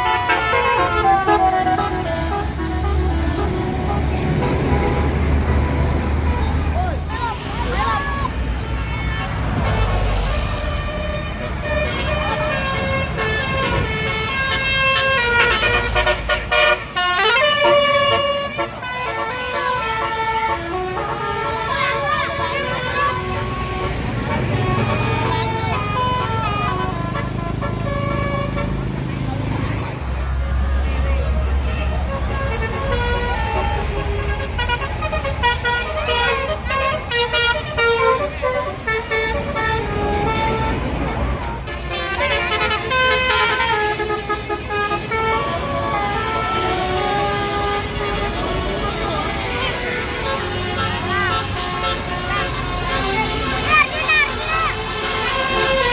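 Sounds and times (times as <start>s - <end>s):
musical air horn melody: 0.0s - 6.7s, 8.4s - 28.8s, 31.6s - 55.9s
low rumble of traffic: 0.0s - 55.9s.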